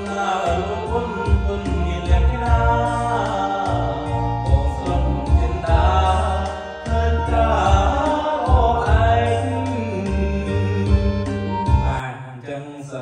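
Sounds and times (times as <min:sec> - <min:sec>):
karaoke backing track with beat: 0:00.0 - 0:13.0
man singing into microphone: 0:00.0 - 0:13.0.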